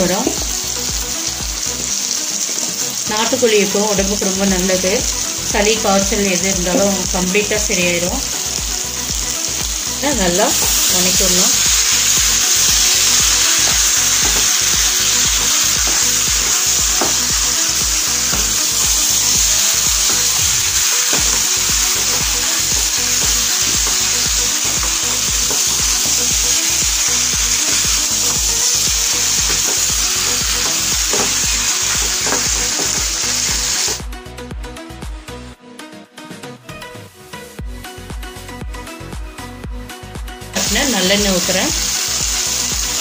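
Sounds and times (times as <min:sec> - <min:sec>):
food sizzling in hot oil: 0:00.0 - 0:34.1, 0:40.5 - 0:43.0.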